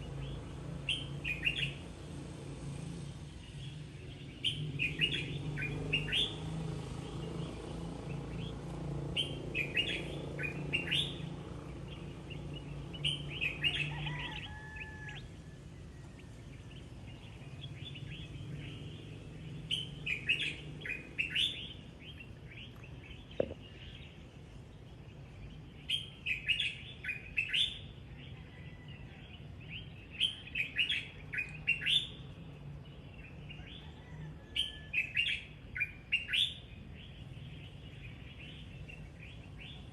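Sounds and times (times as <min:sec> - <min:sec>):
birds chirping: 0:00.0 - 0:02.1, 0:02.7 - 0:39.9.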